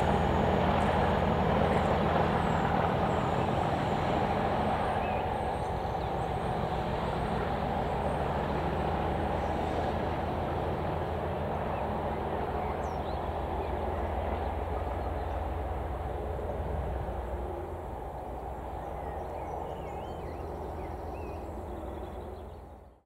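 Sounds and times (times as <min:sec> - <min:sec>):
diesel locomotive engine rumble: 0:00.0 - 0:23.0.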